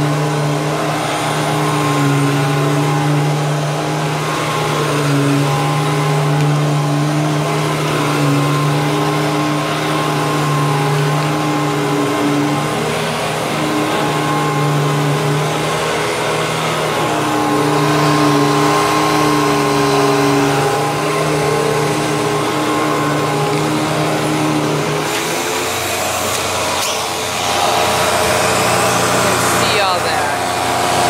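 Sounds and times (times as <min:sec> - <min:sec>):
vacuum cleaner humming on carpet: 0:00.0 - 0:31.0.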